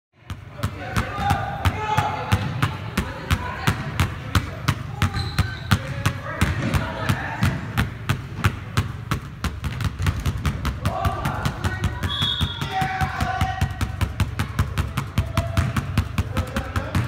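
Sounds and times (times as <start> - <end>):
basketballs bouncing on wooden floor: 0.2 - 17.0.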